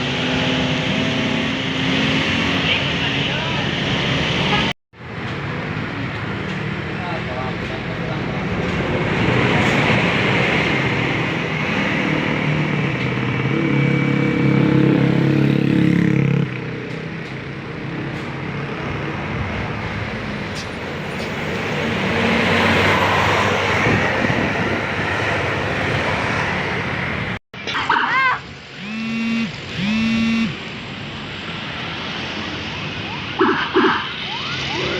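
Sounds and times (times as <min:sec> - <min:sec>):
bus engine drone: 0:00.0 - 0:34.9
road traffic noise: 0:00.0 - 0:34.9.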